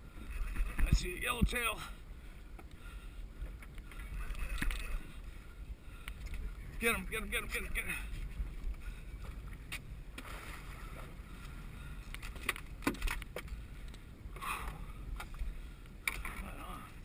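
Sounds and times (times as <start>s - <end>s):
wind rumble: 0.0s - 17.0s
water sloshing against boat hull: 0.2s - 17.0s.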